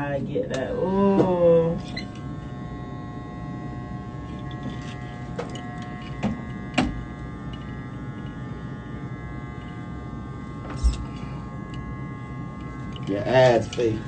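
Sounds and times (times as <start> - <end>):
steady electric hum: 0.0 - 14.0.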